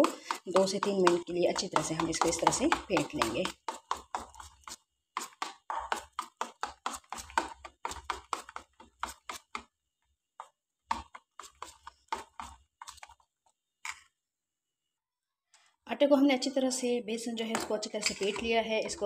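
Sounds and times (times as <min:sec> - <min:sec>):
spoon beating batter in steel bowl: 0:00.0 - 0:14.1, 0:17.4 - 0:19.0.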